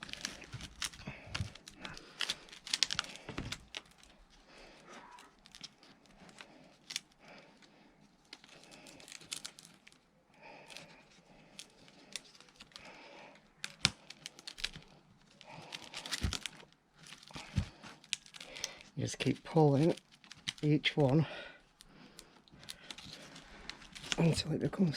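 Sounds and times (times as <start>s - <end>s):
rope rustling: 0.0s - 24.5s.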